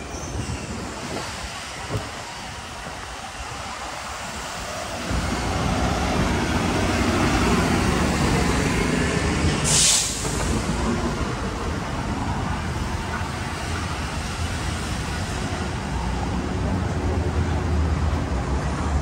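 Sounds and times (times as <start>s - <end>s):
vehicles driving past: 0.7s - 19.0s.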